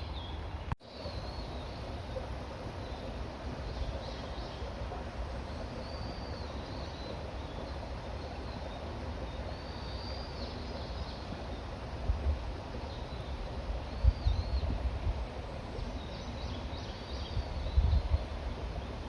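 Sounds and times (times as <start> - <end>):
songbirds calling: 0.0 - 19.0.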